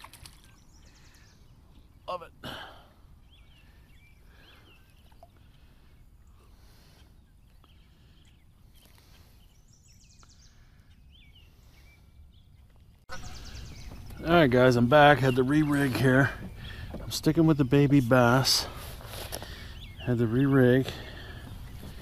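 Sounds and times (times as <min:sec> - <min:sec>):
bird chirping: 0:03.1 - 0:22.0.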